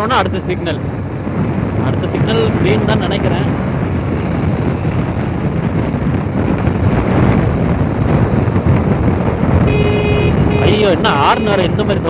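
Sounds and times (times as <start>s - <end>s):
motorcycle engine rumble: 0.0s - 12.0s
road noise: 0.0s - 12.0s
wind buffeting microphone: 0.0s - 12.0s.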